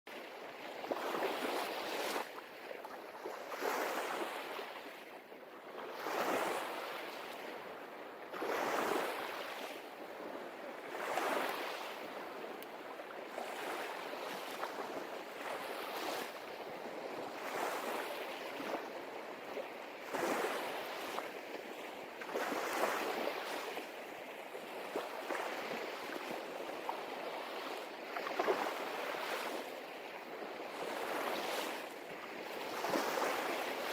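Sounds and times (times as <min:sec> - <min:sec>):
waves breaking on a beach: 0:00.1 - 0:33.9.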